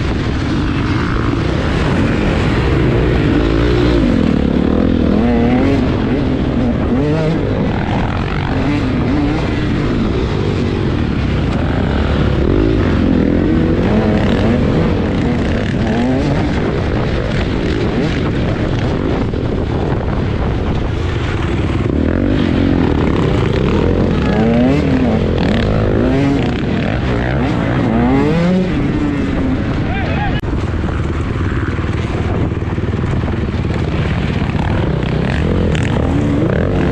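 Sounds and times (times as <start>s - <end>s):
dirt bike engine revving: 0.0s - 19.2s, 20.8s - 29.9s, 33.0s - 36.9s.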